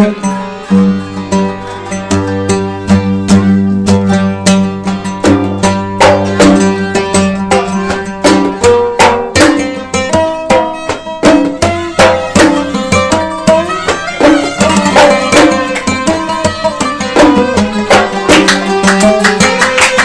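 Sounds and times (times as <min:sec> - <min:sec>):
hand drum beat: 0:00.0 - 0:20.0
plucked qanun and violins: 0:00.0 - 0:20.0.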